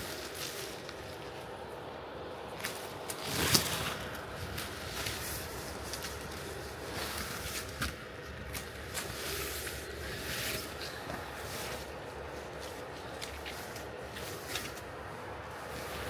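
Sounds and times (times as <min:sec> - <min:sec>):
branches and leaves rustling: 0:00.0 - 0:16.0.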